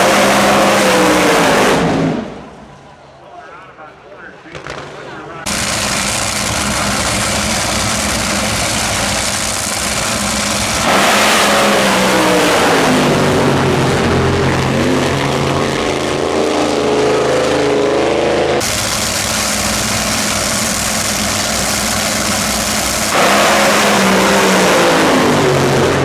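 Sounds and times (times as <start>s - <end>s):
loud hissy roar: 0.0s - 2.2s, 5.5s - 26.0s
race car engine revving: 0.0s - 2.6s, 4.6s - 26.0s.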